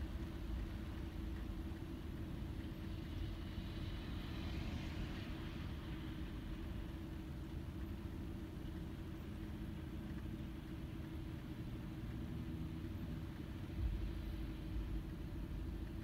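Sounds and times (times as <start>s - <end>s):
low steady rumble: 0.0s - 16.0s
muffled rain on glass: 0.0s - 16.0s.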